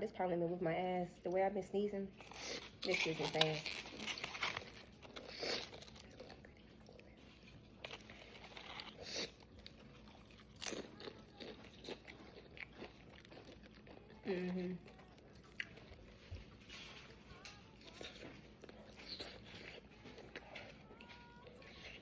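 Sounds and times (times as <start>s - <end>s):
chips being bitten and chewed: 2.2s - 22.0s.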